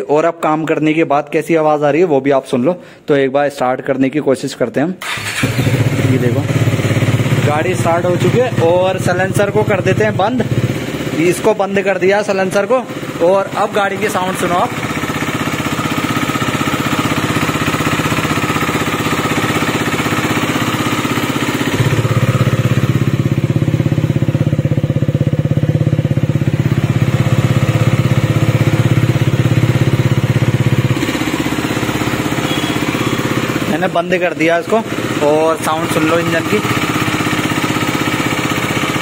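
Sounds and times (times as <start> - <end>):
motorcycle engine idling: 5.0 - 39.0.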